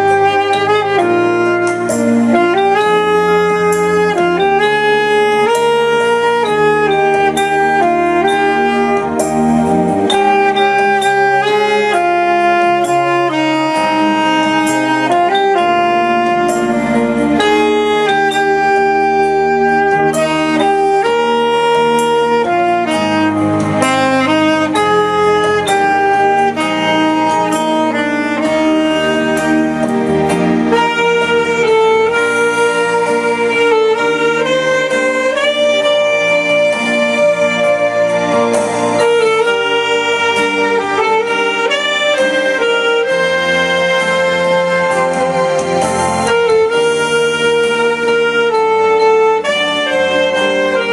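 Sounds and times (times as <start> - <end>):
held accompaniment: 0.0 - 50.9
saxophone melody: 0.0 - 50.9.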